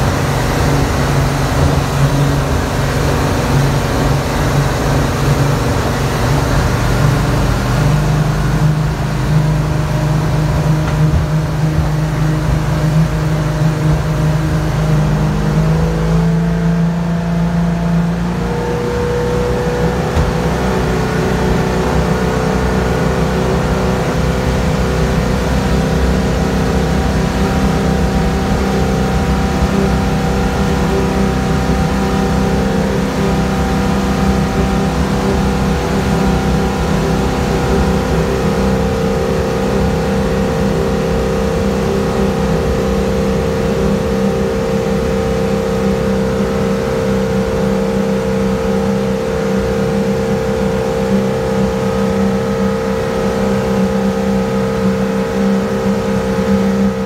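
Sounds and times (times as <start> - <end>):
boat engine drone from cabin: 0.0 - 57.0.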